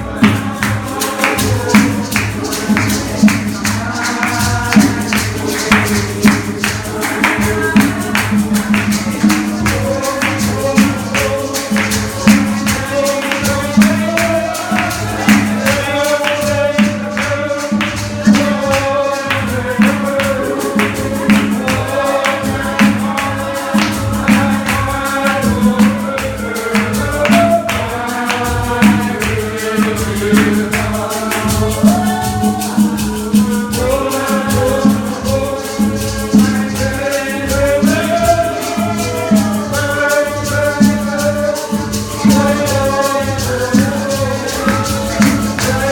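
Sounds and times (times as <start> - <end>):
tambourine beat: 0.0 - 45.9
voices singing over instruments: 0.0 - 45.9.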